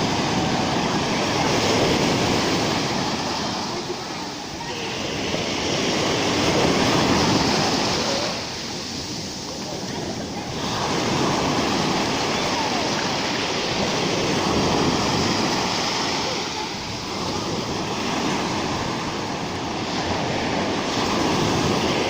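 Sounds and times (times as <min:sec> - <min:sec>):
surf breaking and washing in: 0:00.0 - 0:22.0.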